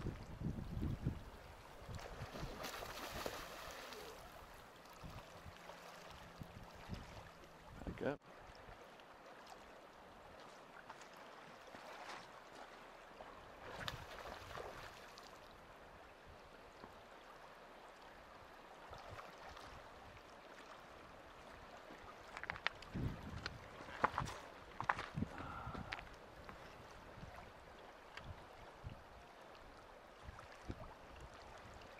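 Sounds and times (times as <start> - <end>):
fast-flowing river current: 0.0 - 31.9.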